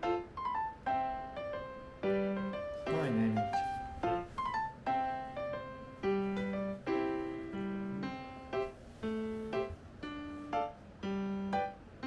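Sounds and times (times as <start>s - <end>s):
slow keyboard melody: 0.0s - 12.0s.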